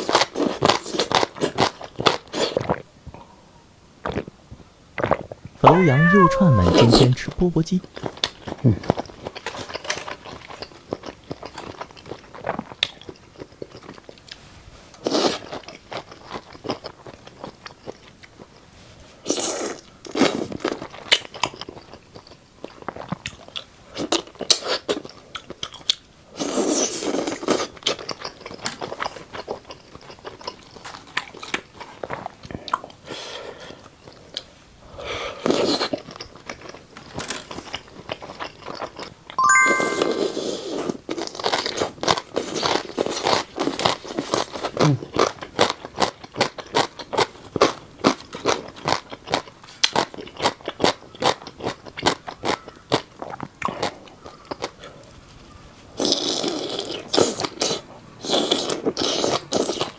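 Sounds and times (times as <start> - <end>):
crunchy chewing: 0.0 - 2.8, 7.8 - 34.5, 35.3 - 39.4, 40.7 - 59.9.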